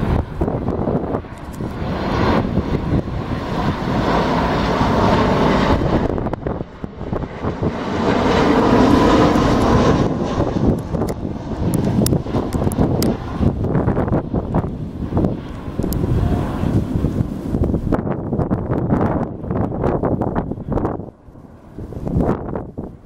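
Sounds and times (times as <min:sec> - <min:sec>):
airliner engines roaring: 0:00.0 - 0:23.0
wind buffeting microphone: 0:00.0 - 0:23.0.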